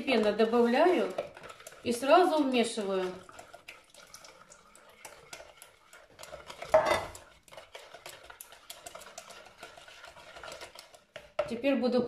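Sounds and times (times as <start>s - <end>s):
spoon stirring batter in bowl: 0.0s - 12.0s.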